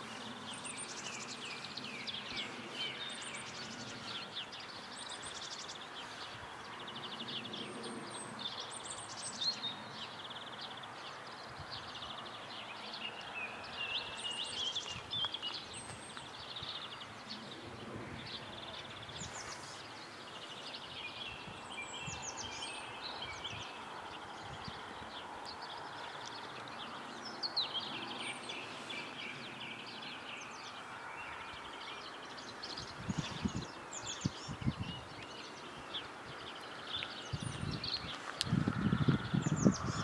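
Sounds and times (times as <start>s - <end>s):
songbirds trilling and chirping: 0.0s - 40.0s.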